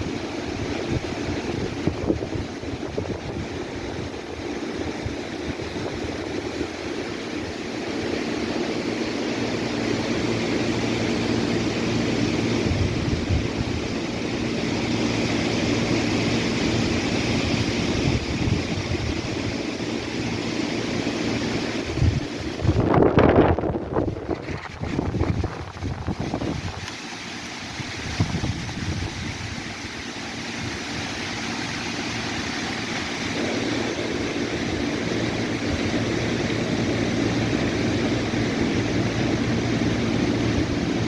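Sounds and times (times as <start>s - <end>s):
engine drone: 0.0s - 41.0s
wind rustling leaves: 0.0s - 41.0s.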